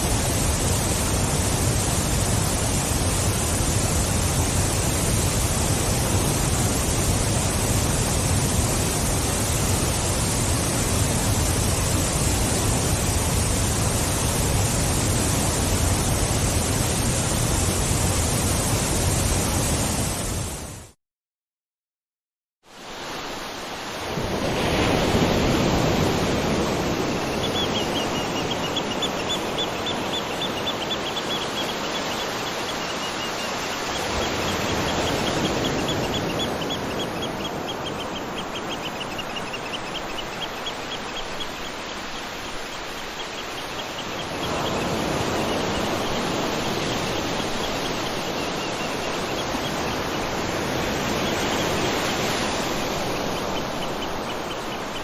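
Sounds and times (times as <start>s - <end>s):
waterfall rushing: 0.0s - 20.5s, 22.8s - 55.0s.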